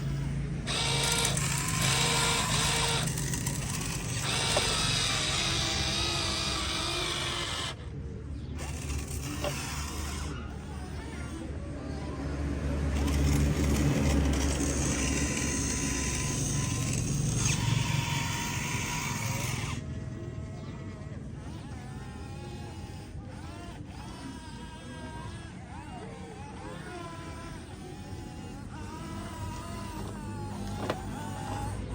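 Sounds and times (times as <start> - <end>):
small electric motors whining: 0.0 - 31.9.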